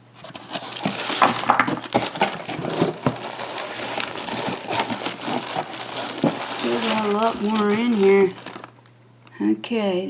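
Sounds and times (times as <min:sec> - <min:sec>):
packing paper rustling: 0:00.0 - 0:08.9.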